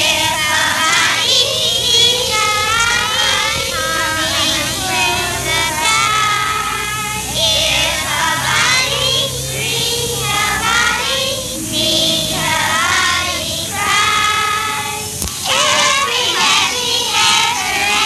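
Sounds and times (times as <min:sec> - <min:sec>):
children singing in unison: 0:00.0 - 0:18.0.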